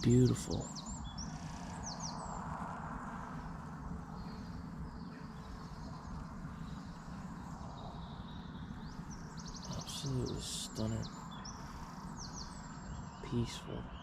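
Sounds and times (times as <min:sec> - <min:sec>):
bird chirps: 0:00.0 - 0:14.0
low background rumble: 0:00.0 - 0:14.0.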